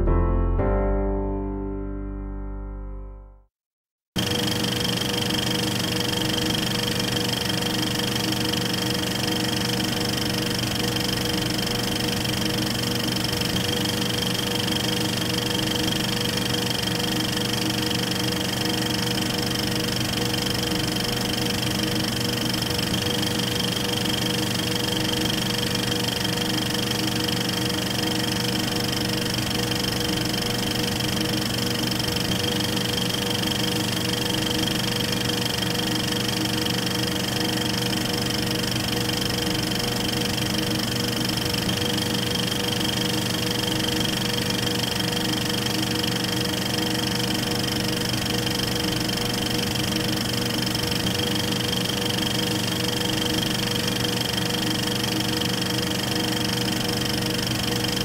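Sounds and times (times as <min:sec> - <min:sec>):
film projector whirring: 0:04.2 - 0:58.0.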